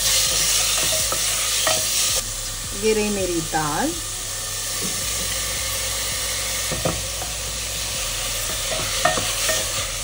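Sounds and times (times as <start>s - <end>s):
onion and tomato sizzling in oil: 0.0s - 10.0s.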